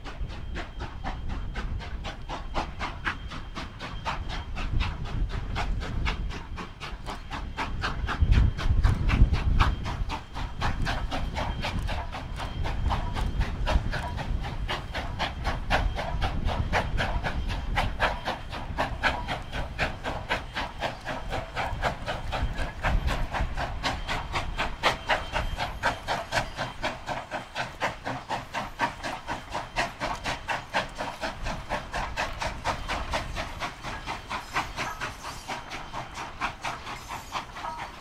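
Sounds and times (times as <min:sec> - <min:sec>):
steam locomotive exhaust chuffs: 0:00.0 - 0:38.0.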